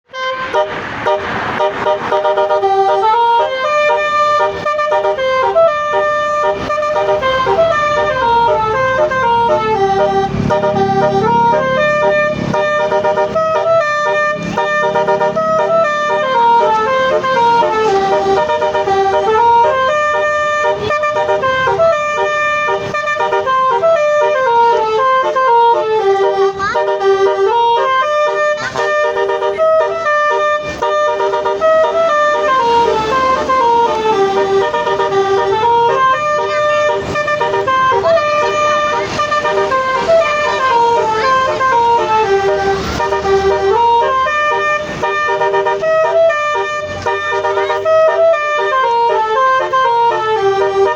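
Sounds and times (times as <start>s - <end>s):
musical air horn melody: 0.0s - 50.9s.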